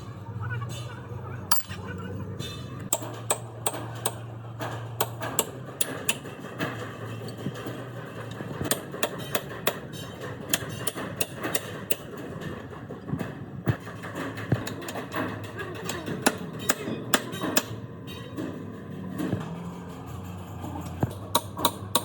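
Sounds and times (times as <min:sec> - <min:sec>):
hammer tapping on metal: 0:02.9 - 0:12.3, 0:13.1 - 0:22.0.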